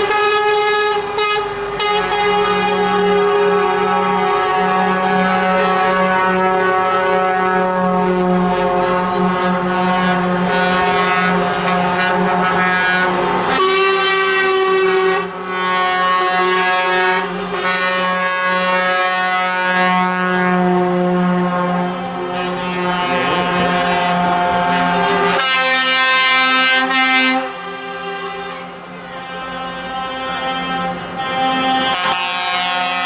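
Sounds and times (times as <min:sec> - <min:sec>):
truck air horns: 0:00.0 - 0:33.0.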